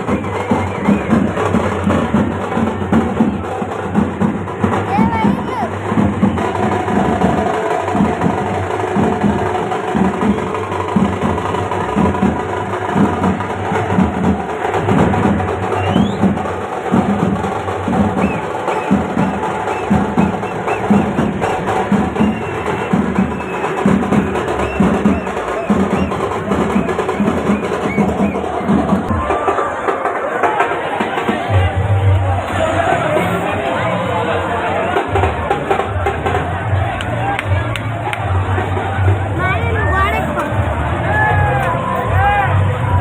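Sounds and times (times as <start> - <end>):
background music with percussion beat: 0.0 - 43.0.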